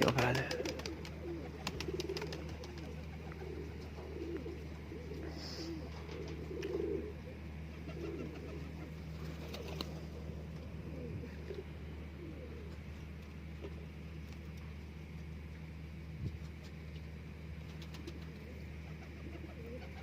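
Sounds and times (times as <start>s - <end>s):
pigeons cooing: 0.0s - 20.0s
steady low hum: 0.0s - 20.0s.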